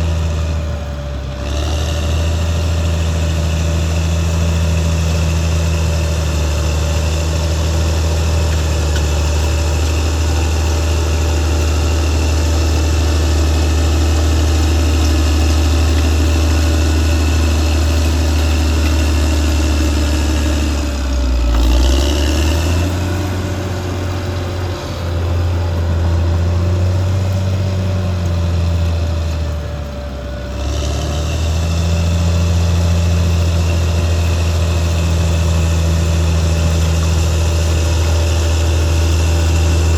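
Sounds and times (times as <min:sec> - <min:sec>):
bulldozer diesel engine humming: 0:00.0 - 0:39.9.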